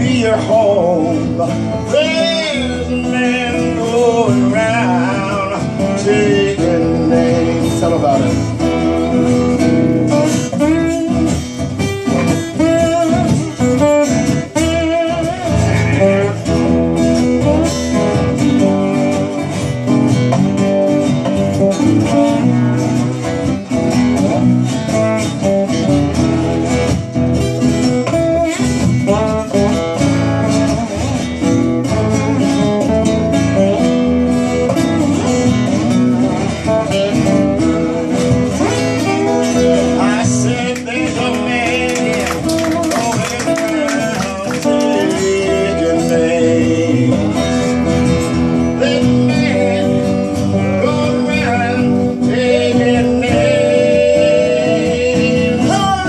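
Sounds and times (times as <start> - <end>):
acoustic guitars playing blues: 0.0 - 56.0.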